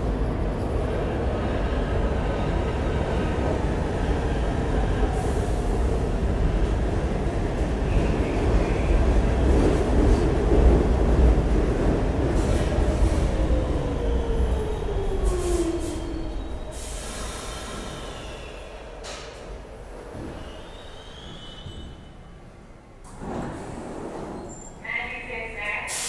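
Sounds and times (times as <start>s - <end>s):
train wheels rumbling on rails: 0.0s - 22.3s, 23.0s - 24.8s.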